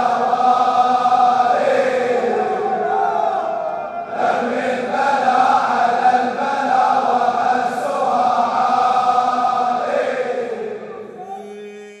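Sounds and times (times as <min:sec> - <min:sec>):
chorus of voices holding a chord: 0:00.0 - 0:11.5.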